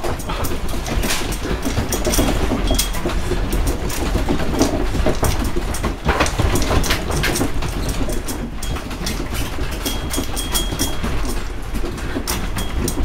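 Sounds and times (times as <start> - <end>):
loose objects rattling: 0.0 - 13.0.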